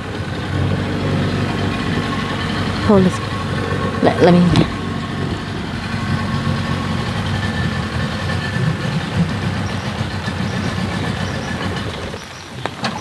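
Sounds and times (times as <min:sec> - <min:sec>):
outboard boat motor idling: 0:00.0 - 0:13.0.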